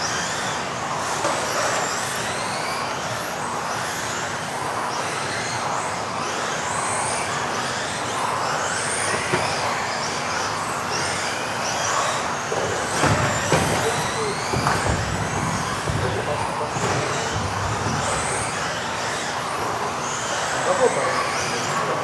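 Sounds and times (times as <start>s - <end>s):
rc buggy motors whining: 0.0s - 22.0s.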